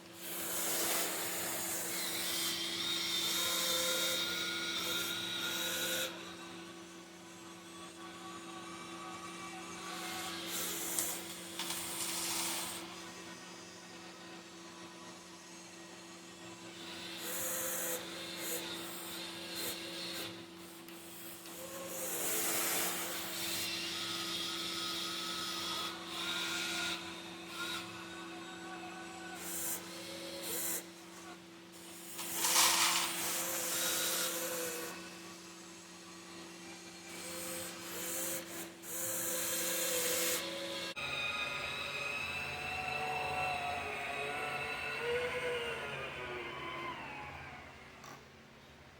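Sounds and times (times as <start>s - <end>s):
electric motor hum and whines: 0.0s - 48.5s.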